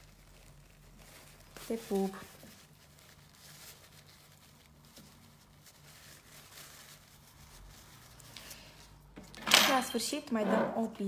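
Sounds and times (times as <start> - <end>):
paper wipe rustling on fingernail: 0.0 - 9.2.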